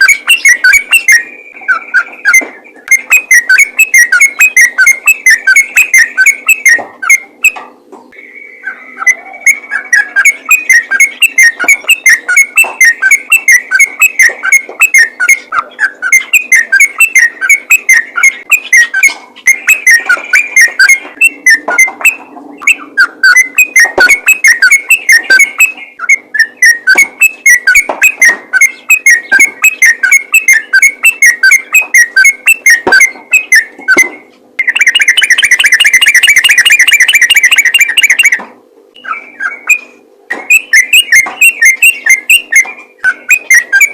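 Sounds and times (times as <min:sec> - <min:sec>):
bird singing bubbly notes: 0:00.0 - 0:43.9.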